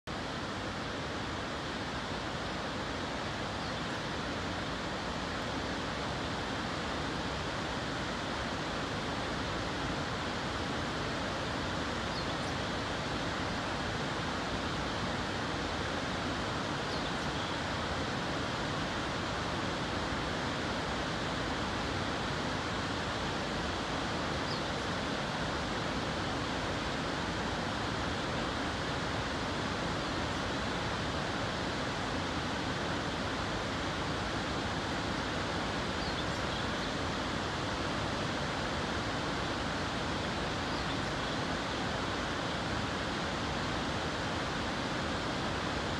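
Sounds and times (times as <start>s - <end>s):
distant waterfall rushing: 0.1s - 45.9s.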